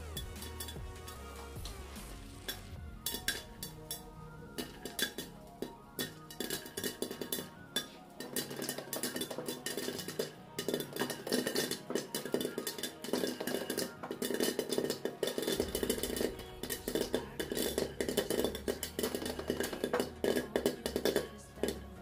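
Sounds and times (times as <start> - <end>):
background music: 0.0 - 22.0
popcorn popping in covered pan: 0.0 - 22.0.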